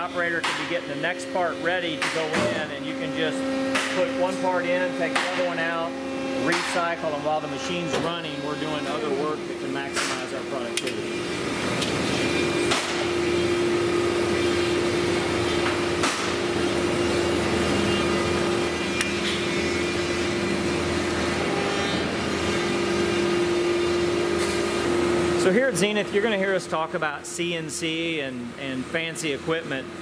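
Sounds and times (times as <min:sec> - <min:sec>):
hydraulic unit humming: 0:00.0 - 0:30.0.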